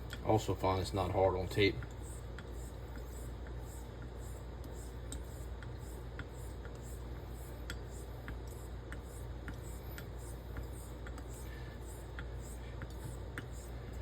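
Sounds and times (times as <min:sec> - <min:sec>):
razor scraping on whetstone: 0:02.0 - 0:13.9.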